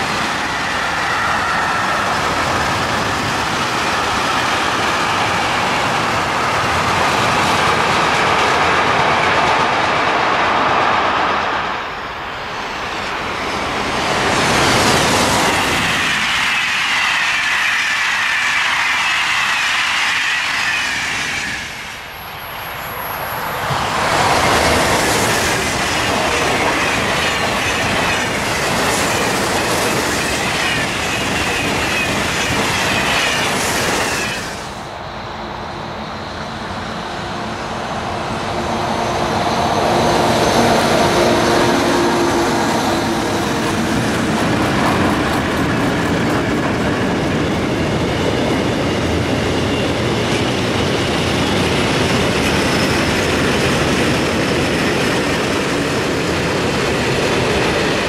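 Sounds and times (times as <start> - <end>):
electric locomotive whine: 0.0 - 58.0
high-speed train sweeping by: 0.0 - 58.0
train coaches rushing past: 0.0 - 58.0.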